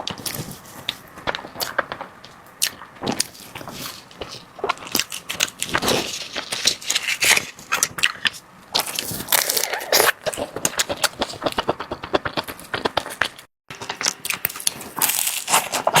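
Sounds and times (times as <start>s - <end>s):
chewing with crackles: 0.0s - 16.0s.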